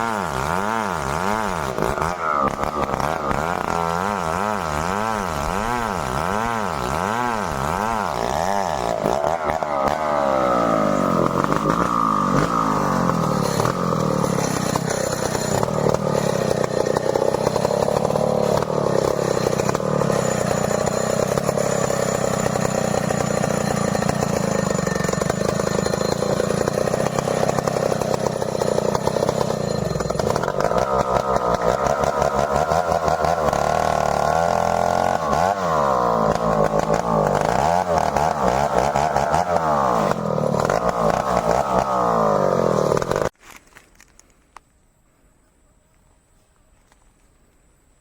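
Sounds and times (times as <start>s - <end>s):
chainsaw engine revving: 0.0s - 43.4s.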